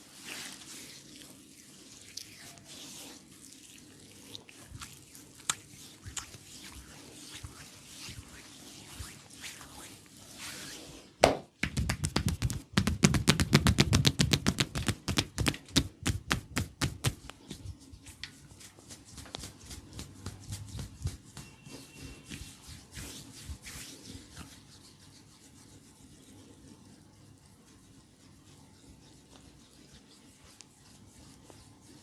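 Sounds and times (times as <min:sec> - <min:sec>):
massage strokes on bare skin: 0:00.0 - 0:32.0.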